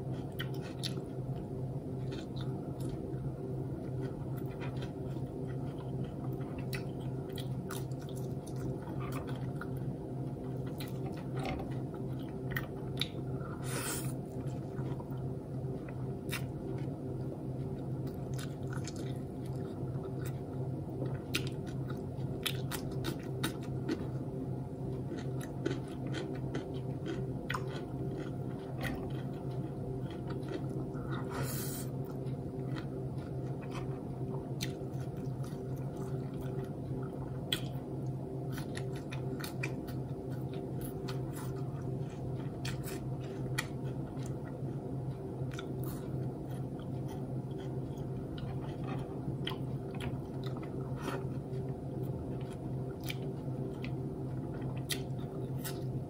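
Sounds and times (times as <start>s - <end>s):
person chewing: 0.0s - 1.3s, 1.9s - 3.1s, 3.8s - 24.2s, 24.8s - 56.0s
low hum: 0.0s - 56.0s.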